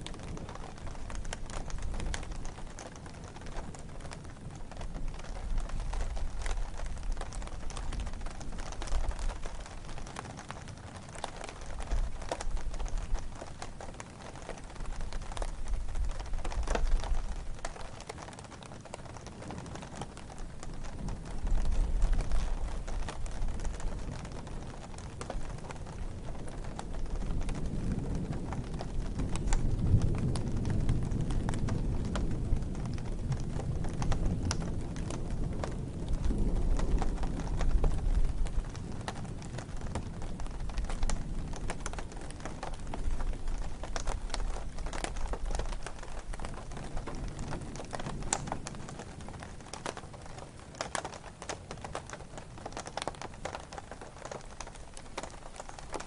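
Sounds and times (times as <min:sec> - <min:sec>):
rain drops tapping: 0:00.0 - 0:56.0.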